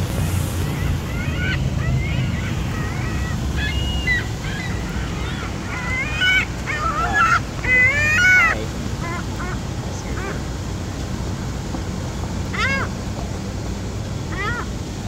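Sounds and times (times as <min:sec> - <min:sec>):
gulls calling: 0:00.0 - 0:11.0, 0:12.0 - 0:15.0
low background rush: 0:00.0 - 0:15.0.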